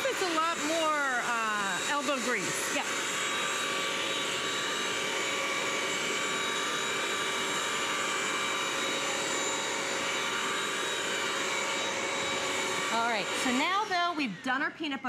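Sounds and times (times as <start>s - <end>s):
wet vacuum cleaner running: 0.0s - 15.0s.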